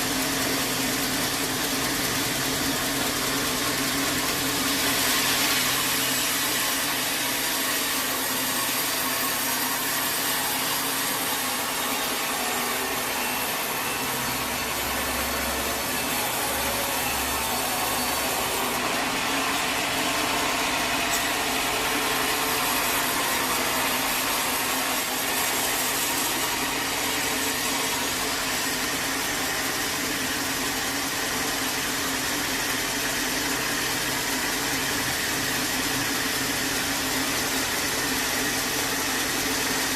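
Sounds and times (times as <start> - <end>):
sawmill saw cutting a log: 0.0 - 39.9.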